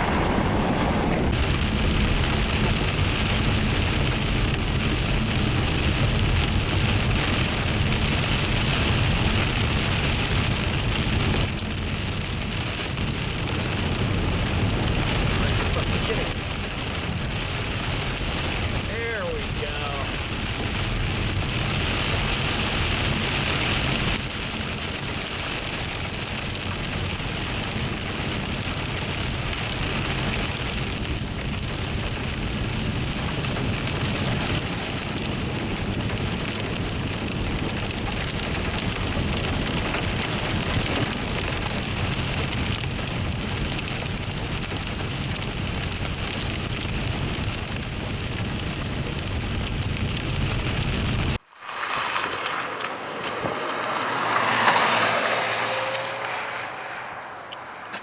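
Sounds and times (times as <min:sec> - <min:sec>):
rain: 0:00.0 - 0:58.0
wind: 0:00.0 - 0:58.0.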